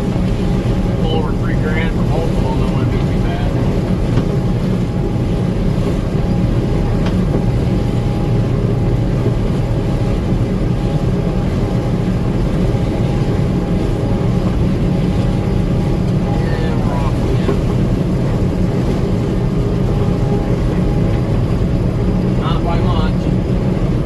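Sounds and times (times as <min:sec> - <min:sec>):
combine harvester drone: 0:00.0 - 0:24.0
faint steady whine: 0:00.0 - 0:24.0.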